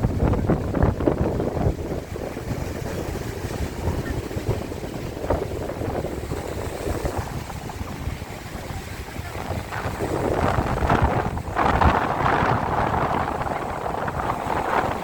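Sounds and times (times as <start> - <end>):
sea waves breaking on shore: 0.0 - 15.0
wind rumbling on microphone: 0.0 - 15.0.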